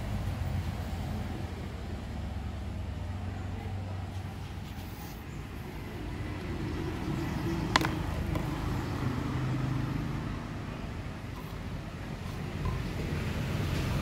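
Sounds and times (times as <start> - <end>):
motor traffic rumble: 0.0 - 14.0.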